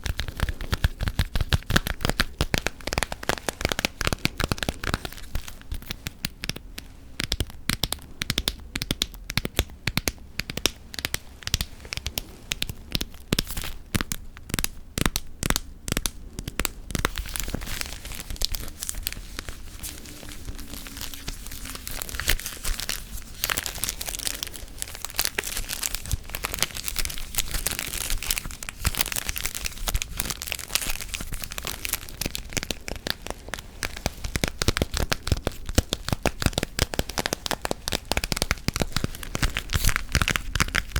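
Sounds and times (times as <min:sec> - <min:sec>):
crinkling crackle: 0:00.0 - 0:40.9.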